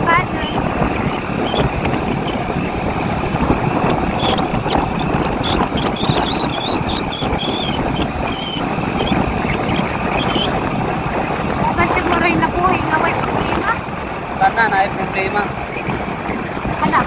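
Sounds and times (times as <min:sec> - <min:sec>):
vehicle engine running: 0:00.0 - 0:17.0
wind rushing over microphone: 0:00.0 - 0:17.0.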